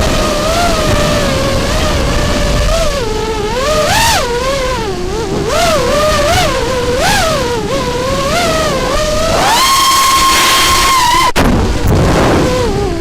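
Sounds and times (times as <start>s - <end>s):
quadcopter motors whining: 0.0s - 13.0s
rough rushing noise: 0.0s - 13.0s.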